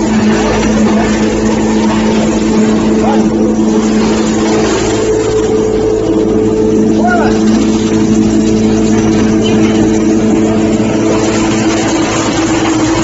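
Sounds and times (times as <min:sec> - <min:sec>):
hammer mill droning: 0:00.0 - 0:13.0.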